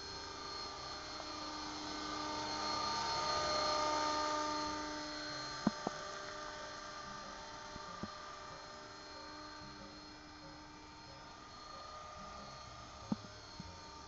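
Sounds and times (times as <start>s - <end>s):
model helicopter motor whine: 0.0s - 14.0s.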